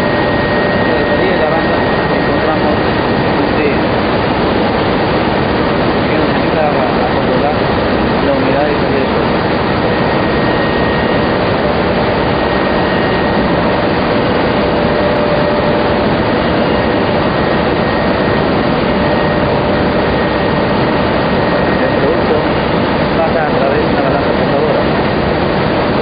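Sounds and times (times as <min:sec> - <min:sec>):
dryer machinery running: 0:00.0 - 0:26.0
faint high whine: 0:00.0 - 0:26.0.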